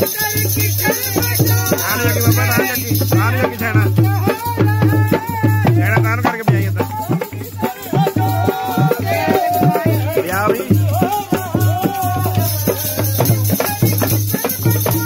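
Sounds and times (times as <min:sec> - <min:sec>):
jingling rattling percussion: 0:00.0 - 0:15.0
ornamented sung vocal: 0:00.0 - 0:15.0.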